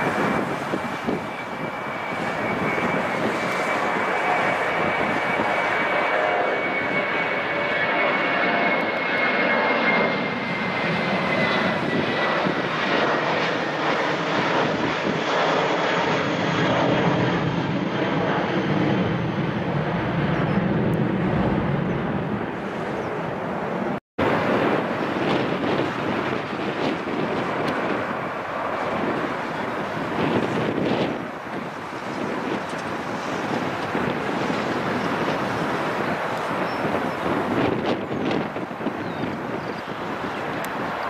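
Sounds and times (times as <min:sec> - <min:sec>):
airplane engines at takeoff: 0:00.0 - 0:41.0.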